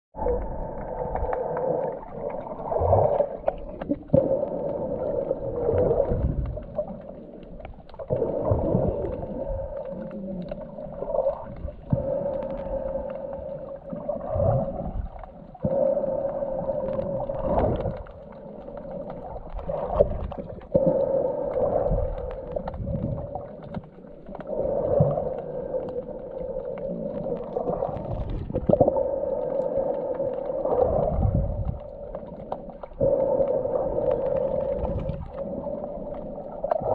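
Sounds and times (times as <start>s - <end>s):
underwater droning tone: 0.2s - 36.9s.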